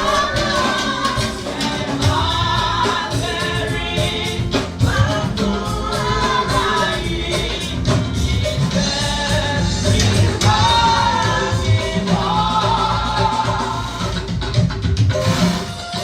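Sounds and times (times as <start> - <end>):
congregation singing a hymn: 0.0 - 14.4
bass guitar: 0.0 - 16.0
drums: 0.0 - 16.0.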